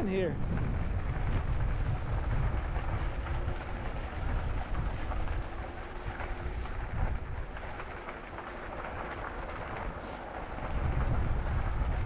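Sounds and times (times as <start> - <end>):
bike rolling noise: 0.0 - 12.0
wind buffeting microphone: 0.0 - 12.0.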